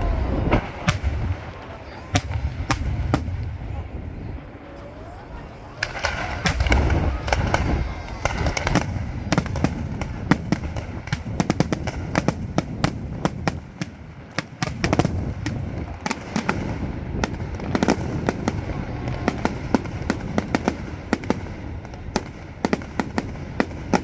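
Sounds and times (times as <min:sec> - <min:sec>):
low rumble of bursting shells: 0:00.0 - 0:04.5, 0:05.8 - 0:24.0
fireworks bangs and crackles: 0:00.0 - 0:24.0.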